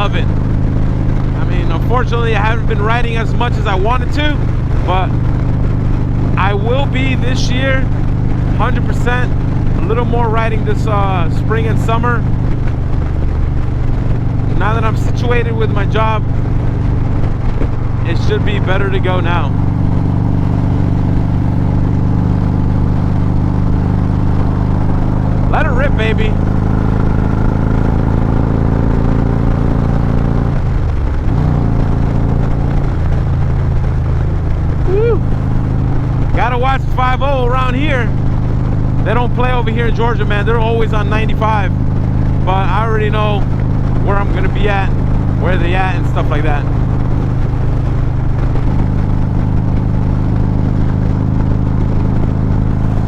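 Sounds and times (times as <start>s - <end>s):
motorcycle engine revving hard: 0.0s - 53.0s
wind and road noise: 0.0s - 53.0s.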